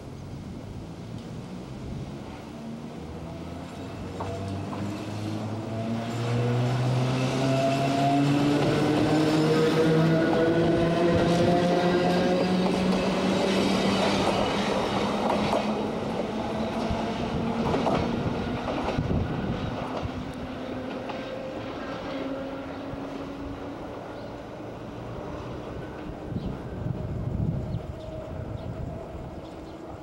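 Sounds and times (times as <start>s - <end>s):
wheel and rail noise: 0.0s - 30.0s.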